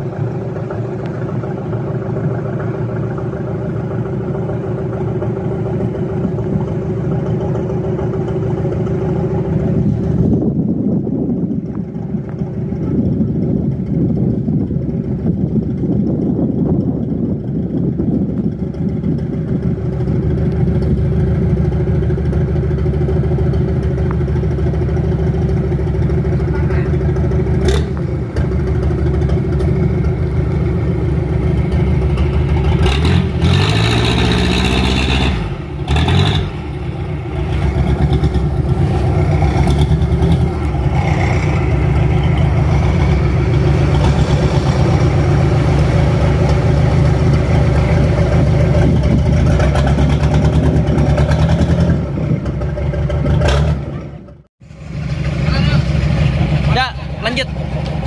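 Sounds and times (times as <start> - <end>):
boat diesel engine running: 0.0 - 58.0.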